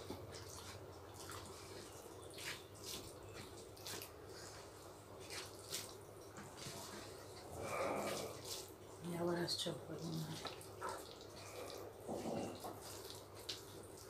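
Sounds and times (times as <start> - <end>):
chewing: 0.0 - 9.0, 10.3 - 14.0.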